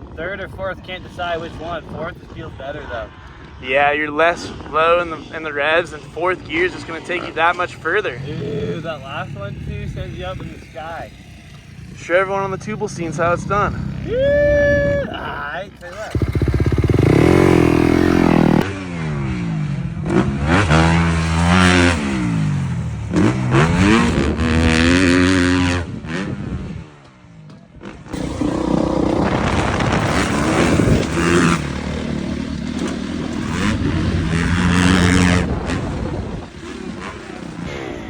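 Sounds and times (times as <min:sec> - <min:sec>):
dirt bike engine revving: 0:05.3 - 0:38.0.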